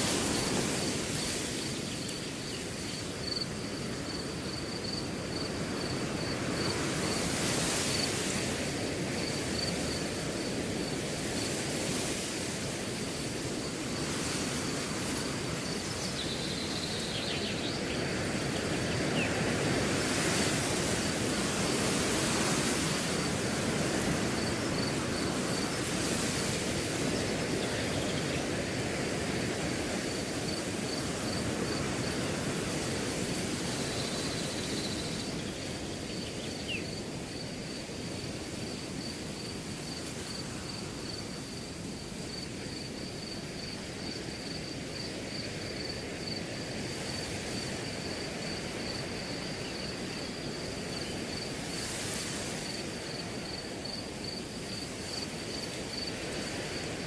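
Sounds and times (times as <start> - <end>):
cricket chirping: 0.0 - 57.0
wind blowing through grass: 0.0 - 57.0.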